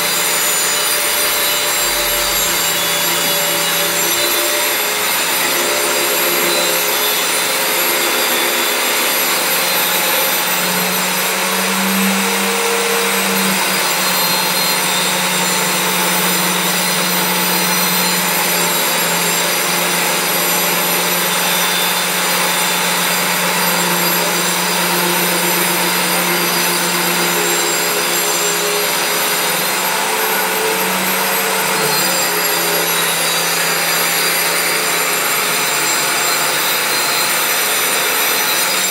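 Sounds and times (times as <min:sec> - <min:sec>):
electric power tool whining: 0:00.0 - 0:38.9.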